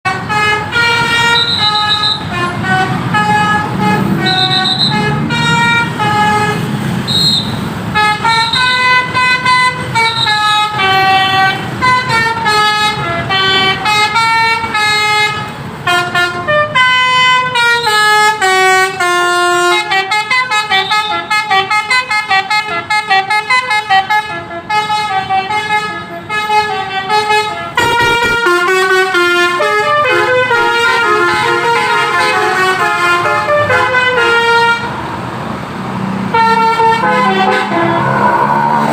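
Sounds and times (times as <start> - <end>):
multi-tone bus horns melody: 0.0 - 35.1, 36.2 - 38.9.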